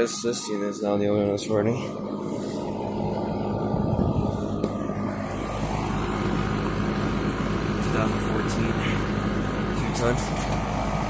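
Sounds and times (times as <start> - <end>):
air conditioner fan blowing: 0.0 - 11.0
compressor humming: 0.0 - 11.0.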